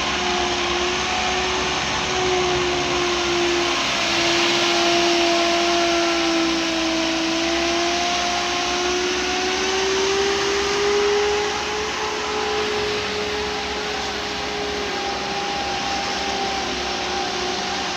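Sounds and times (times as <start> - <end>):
heavy machinery rushing noise: 0.0 - 17.9
machinery whine: 0.0 - 17.9.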